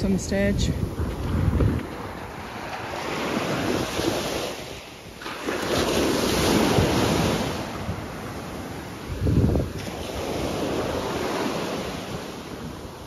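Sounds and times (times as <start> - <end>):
waves breaking on a beach: 0.0 - 13.0
wind buffeting the microphone: 0.0 - 13.0.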